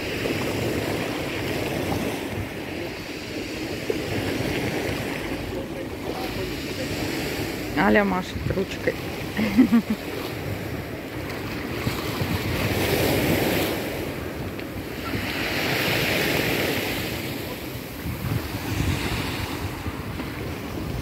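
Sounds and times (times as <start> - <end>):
wind buffeting microphone: 0.0 - 9.4, 10.2 - 21.0
sea waves washing in: 0.0 - 21.0.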